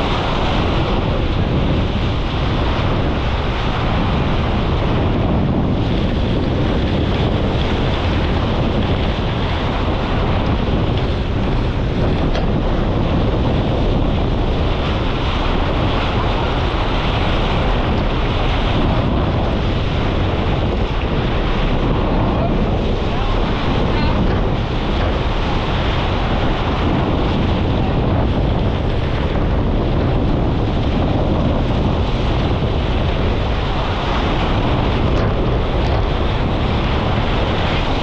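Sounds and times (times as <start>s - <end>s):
rushing water: 0.0s - 38.0s
wind buffeting microphone: 0.0s - 38.0s.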